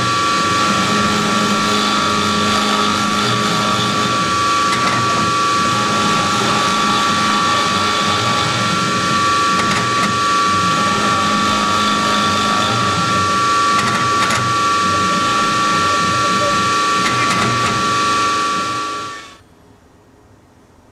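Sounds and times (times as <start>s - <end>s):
end mill carving wood: 0.0s - 19.4s
mill spindle whining: 0.0s - 19.5s.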